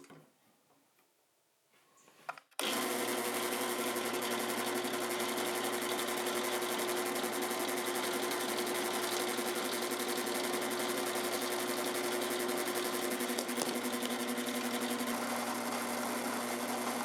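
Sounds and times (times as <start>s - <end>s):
electric drill humming: 2.6s - 17.0s.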